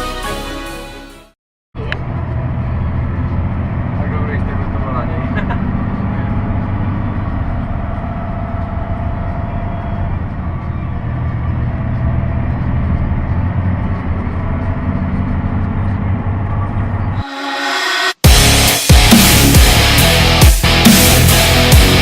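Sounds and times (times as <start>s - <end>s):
heavy diesel engine running: 1.8s - 22.0s.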